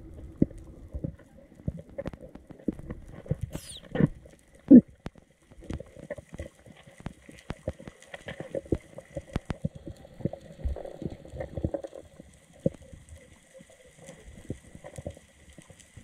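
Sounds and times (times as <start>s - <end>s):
muffled underwater clicks and knocks: 0.1s - 13.0s.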